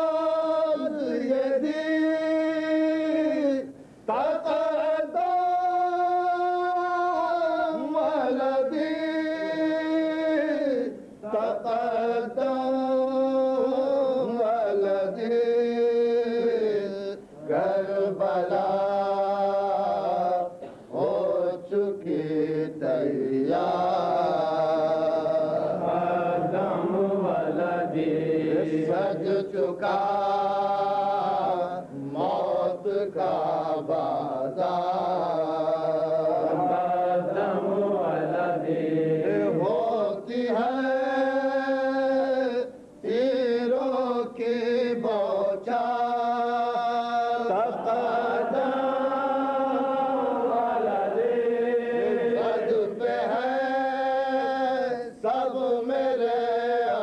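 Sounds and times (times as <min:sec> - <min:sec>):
men chanting a lament: 0:00.0 - 0:57.0.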